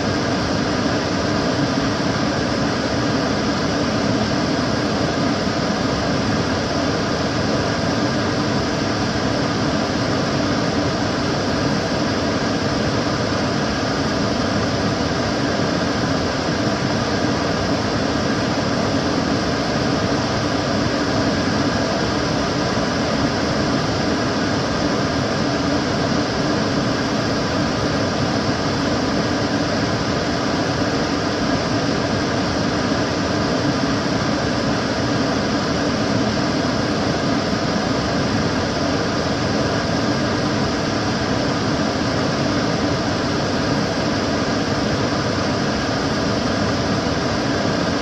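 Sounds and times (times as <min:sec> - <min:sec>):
extractor fan whooshing: 0:00.0 - 0:48.0.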